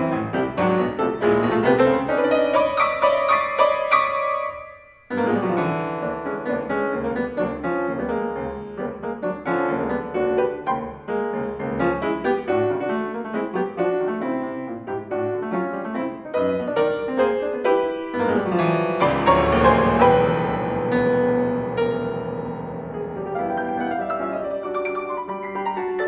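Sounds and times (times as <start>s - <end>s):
grand piano classical passage: 0.0s - 26.0s.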